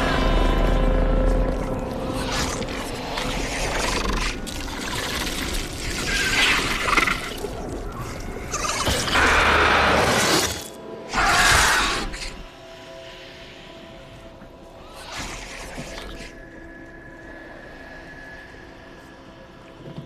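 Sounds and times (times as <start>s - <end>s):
dramatic music: 0.0s - 19.6s.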